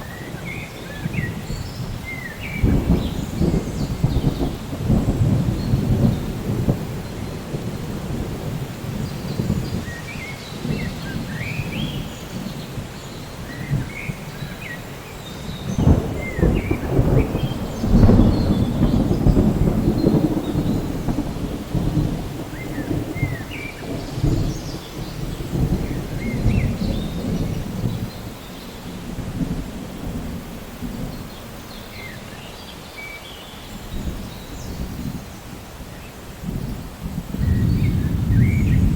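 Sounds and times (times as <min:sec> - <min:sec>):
rolling thunder: 0:00.0 - 0:14.8, 0:15.4 - 0:32.2, 0:33.9 - 0:38.9
steady rain: 0:00.0 - 0:38.9.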